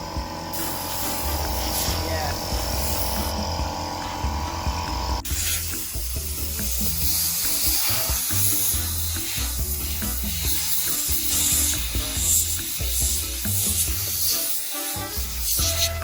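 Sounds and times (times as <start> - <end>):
compressed air hissing: 0.0 - 16.0
music with stepping bass line: 0.0 - 16.0.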